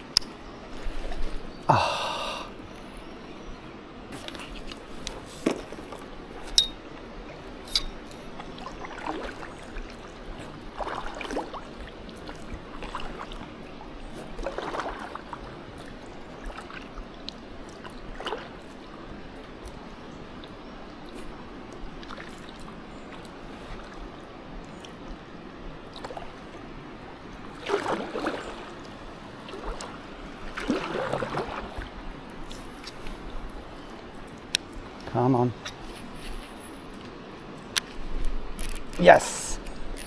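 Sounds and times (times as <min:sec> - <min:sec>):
water sloshing at edge: 0:04.1 - 0:25.2, 0:25.8 - 0:39.9.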